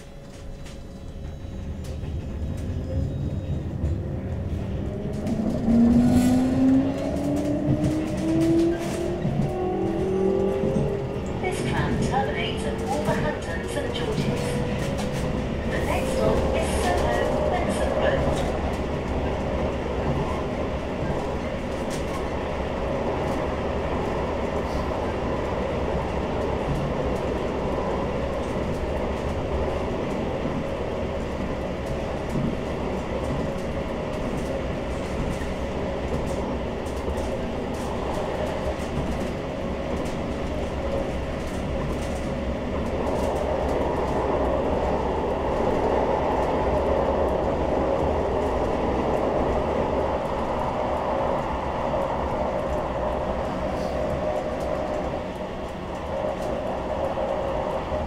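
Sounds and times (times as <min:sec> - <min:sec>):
tram wheels rumbling on rail: 0:00.0 - 0:58.0.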